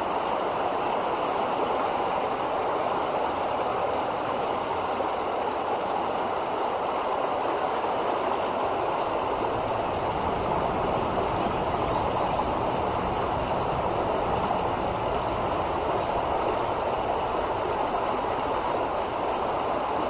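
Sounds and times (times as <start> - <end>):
river water rushing over rapids: 0.0 - 20.0.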